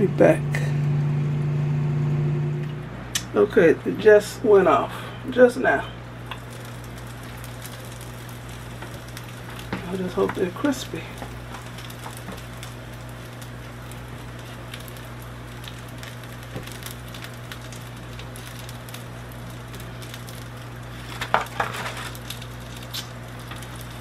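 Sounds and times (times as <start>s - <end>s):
faint sizzle of hot food: 0.0s - 24.0s
steady low hum: 0.0s - 24.0s.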